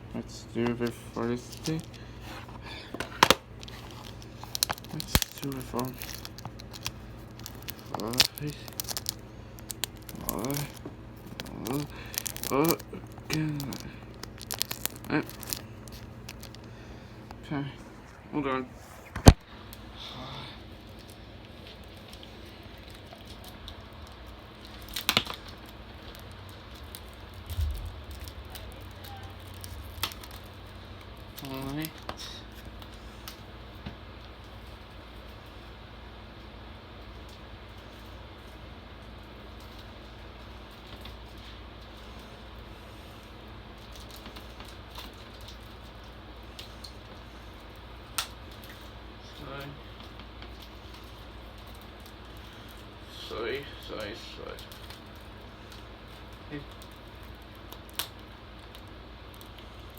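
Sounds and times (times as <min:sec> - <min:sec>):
background hiss and hum: 0:00.0 - 0:59.9.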